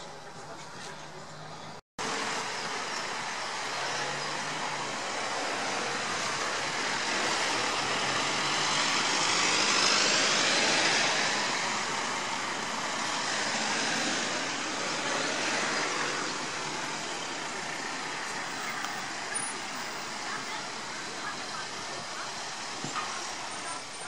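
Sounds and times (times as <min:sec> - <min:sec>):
vehicles driving past: 0:00.0 - 0:24.0.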